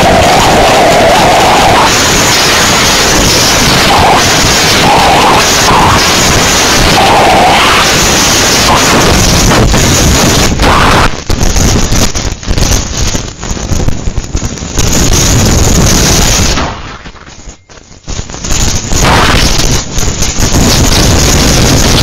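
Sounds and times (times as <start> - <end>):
wind buffeting microphone: 0.0 - 17.5, 18.2 - 22.0.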